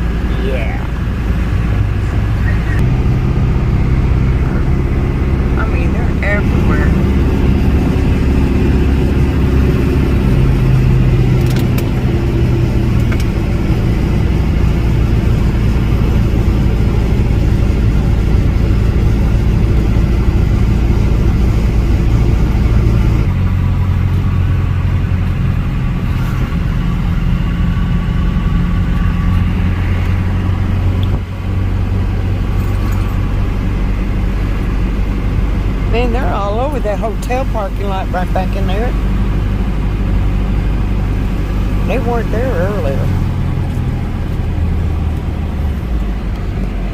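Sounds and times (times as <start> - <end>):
car engine and road noise: 0.0 - 46.9.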